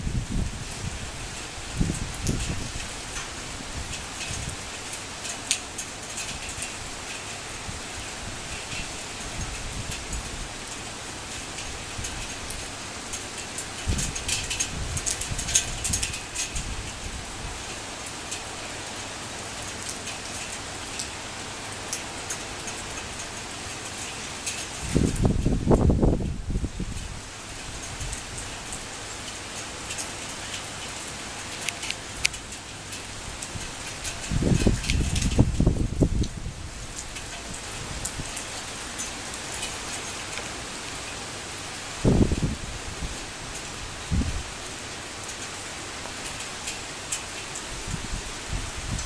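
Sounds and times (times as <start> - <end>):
torrential rain pouring: 0.0 - 49.0.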